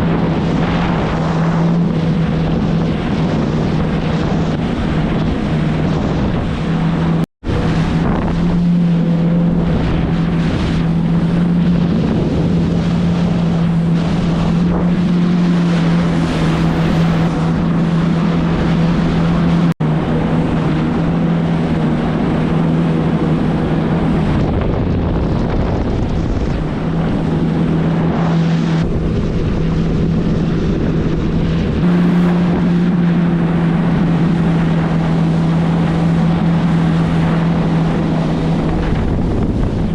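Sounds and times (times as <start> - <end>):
jet ski engine running: 0.0 - 39.9
water rushing past: 0.0 - 39.9
wind buffeting microphone: 0.0 - 39.9.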